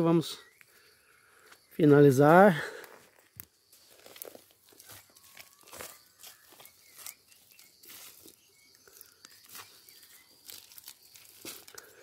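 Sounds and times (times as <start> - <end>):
hands crunching dry soil and leaves: 1.5 - 12.0.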